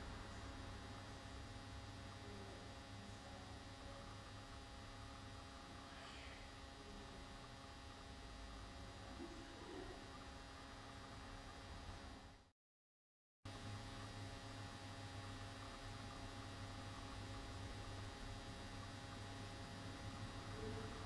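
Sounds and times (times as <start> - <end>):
electrical mains hum: 0.0 - 12.5, 13.5 - 21.0.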